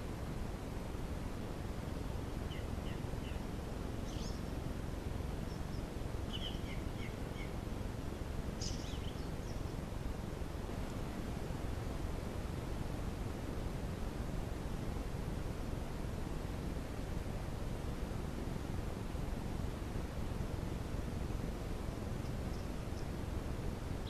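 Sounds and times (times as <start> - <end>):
microphone hiss: 0.0 - 24.0.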